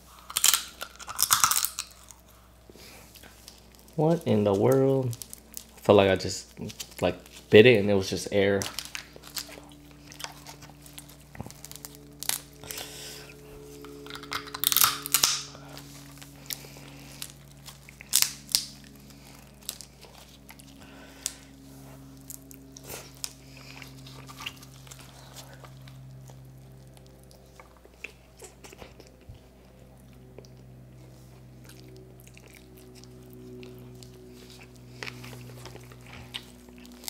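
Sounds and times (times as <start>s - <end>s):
crunchy chewing of crab: 0.0s - 5.8s, 8.4s - 37.0s
steady low hum: 0.0s - 37.0s.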